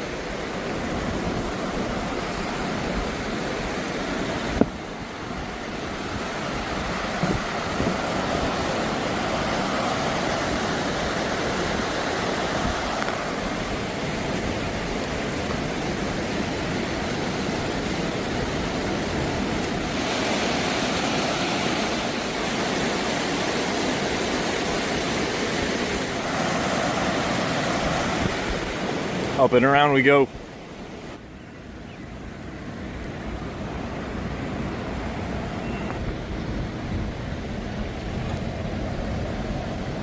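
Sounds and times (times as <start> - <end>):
rushing river: 0.0 - 40.0.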